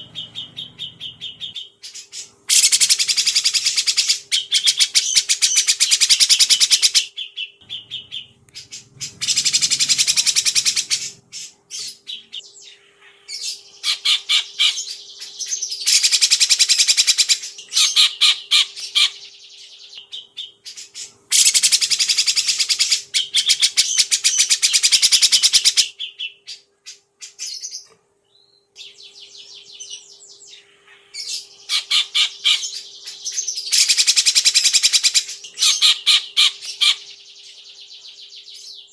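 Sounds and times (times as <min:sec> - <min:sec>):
faint steady hum: 0:00.0 - 0:38.9
songbirds chattering: 0:00.0 - 0:38.9.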